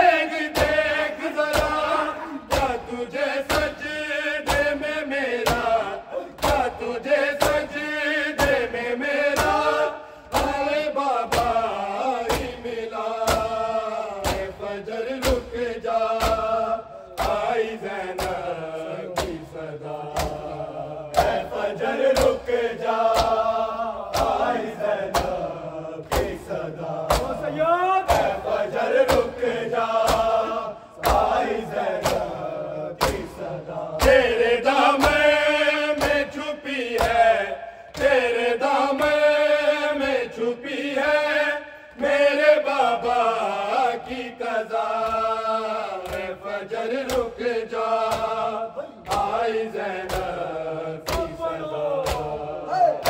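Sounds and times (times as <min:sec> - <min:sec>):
men chanting a lament: 0:00.0 - 0:53.0
hands slapping on chests: 0:00.3 - 0:40.3, 0:43.8 - 0:53.0.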